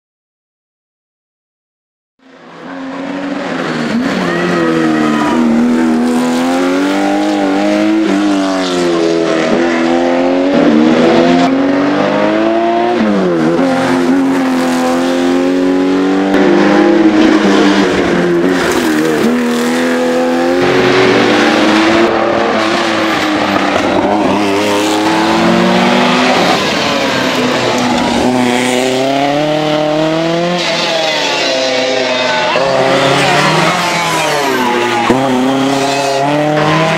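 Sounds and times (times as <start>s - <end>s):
rally car engines at full throttle: 2.2s - 36.9s.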